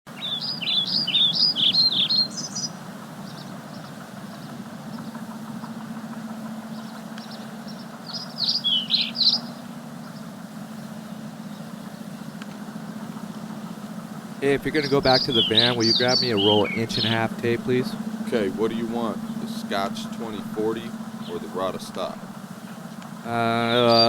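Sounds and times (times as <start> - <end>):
low engine hum: 0.1 - 24.0
songbird warbling high notes: 0.1 - 24.0.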